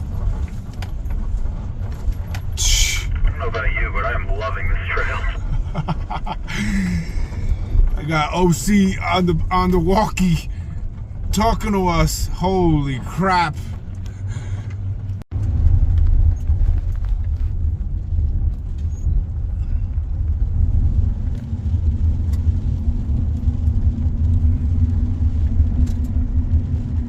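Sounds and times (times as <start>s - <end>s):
van engine and tyres rumbling: 0.0s - 27.0s.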